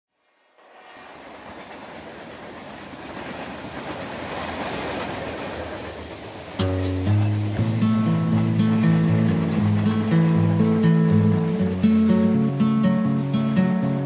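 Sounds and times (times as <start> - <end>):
train running on rails: 0.2 - 14.0.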